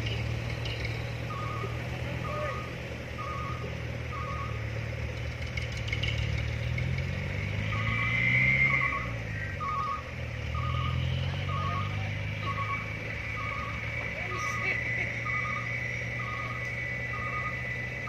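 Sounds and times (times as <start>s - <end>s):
diesel truck engine revving: 0.0s - 18.0s
reversing alarm beeps: 0.3s - 4.9s, 7.5s - 18.0s.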